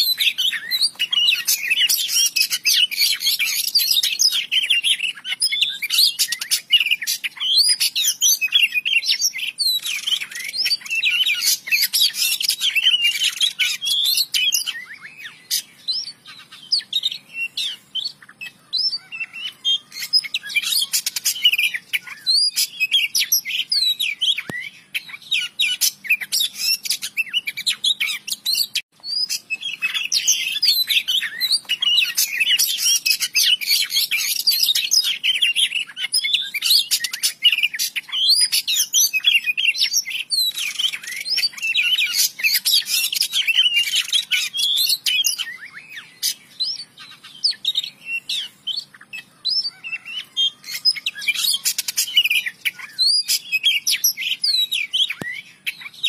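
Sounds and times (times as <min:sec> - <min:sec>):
bird singing chirps and whistles: 0:00.0 - 0:56.0.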